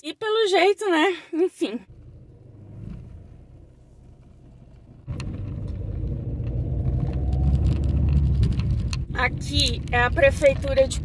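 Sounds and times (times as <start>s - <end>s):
car engine and road rumble: 1.8s - 11.0s.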